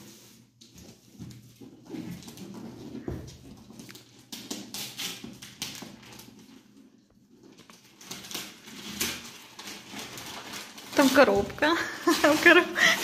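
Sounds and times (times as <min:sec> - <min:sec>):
wrapping paper rustling and crinkling: 0:00.0 - 0:13.0.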